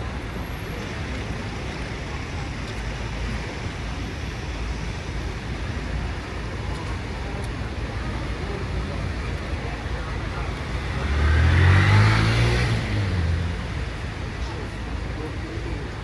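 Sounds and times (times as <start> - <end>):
city road traffic rumble: 0.0 - 16.0.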